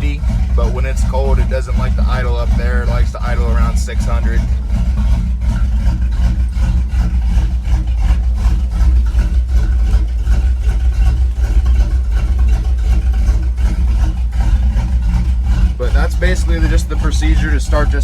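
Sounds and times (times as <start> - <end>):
engine idling low: 0.0 - 18.0.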